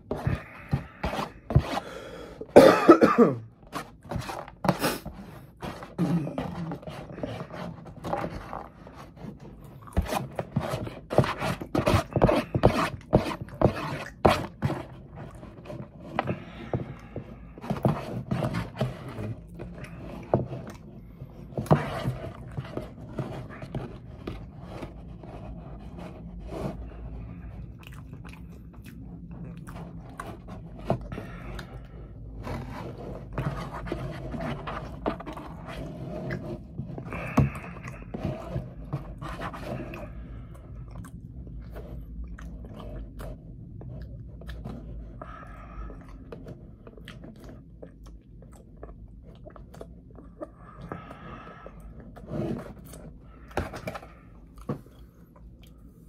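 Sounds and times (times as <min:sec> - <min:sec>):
person chewing food: 0:03.4 - 0:25.5, 0:26.2 - 0:56.0.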